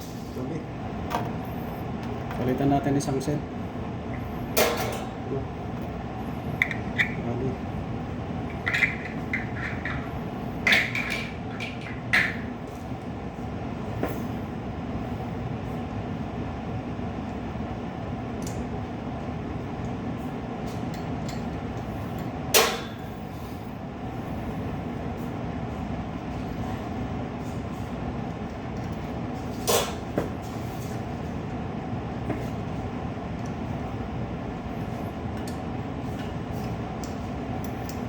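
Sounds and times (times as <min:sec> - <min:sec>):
mechanical hum: 0:00.0 - 0:38.0.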